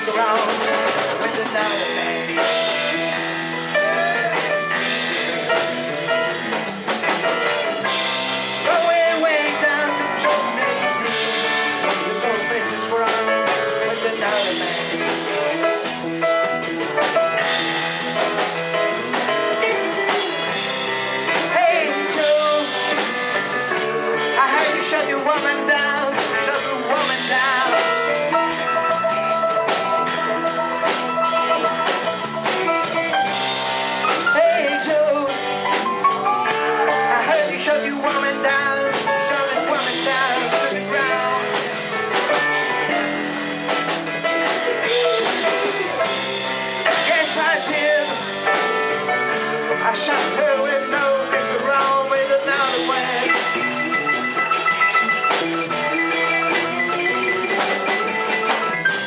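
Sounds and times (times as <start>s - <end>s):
blues-rock band playing: 0.0s - 59.0s
electric guitar lead line: 0.0s - 59.0s.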